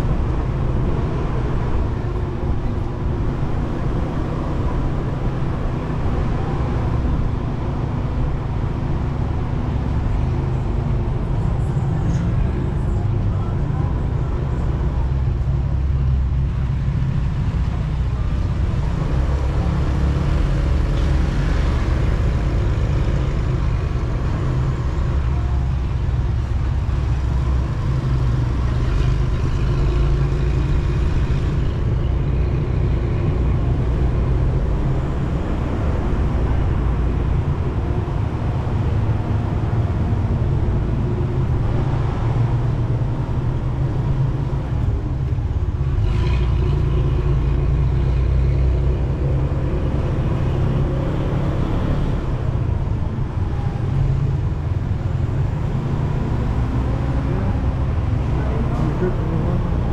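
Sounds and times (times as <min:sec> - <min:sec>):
street traffic: 0:00.0 - 0:59.9.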